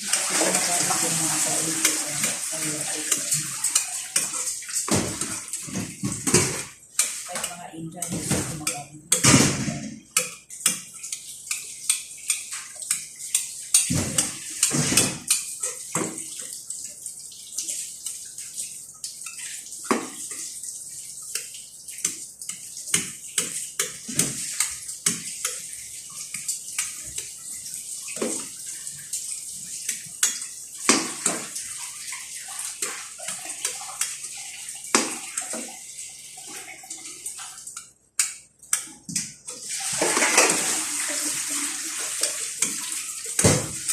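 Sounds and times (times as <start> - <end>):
water running or splashing: 0.0 - 43.9.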